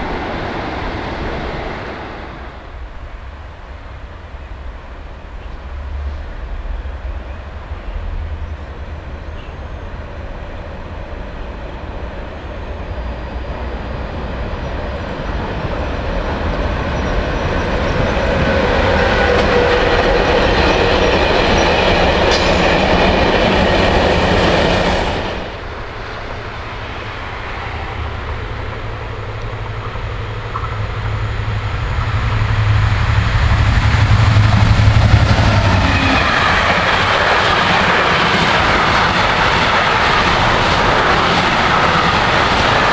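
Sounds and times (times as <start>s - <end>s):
train running past: 0.0s - 42.9s.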